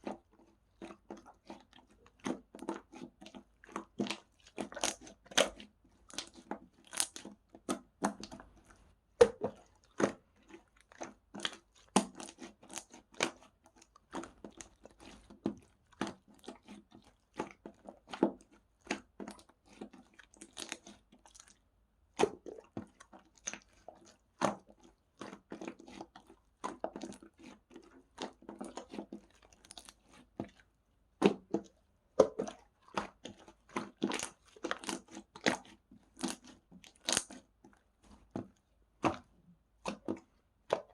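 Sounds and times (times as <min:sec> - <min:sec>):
slime squished by hand: 0:00.0 - 0:30.6, 0:31.2 - 0:40.9.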